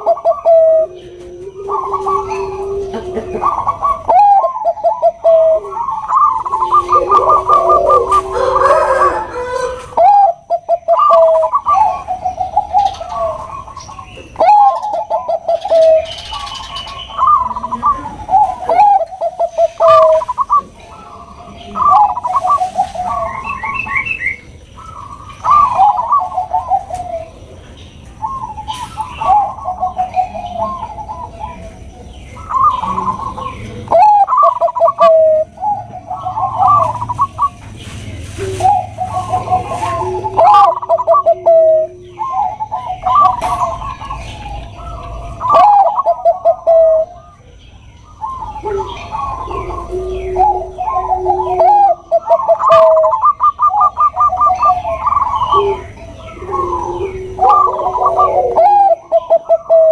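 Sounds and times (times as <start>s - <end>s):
dove cooing: 0.0s - 59.9s
high bird chirps: 0.0s - 59.9s.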